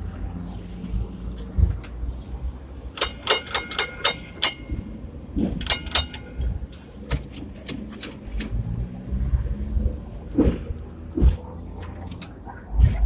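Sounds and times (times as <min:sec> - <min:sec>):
tram running rumble: 0:00.0 - 0:13.0.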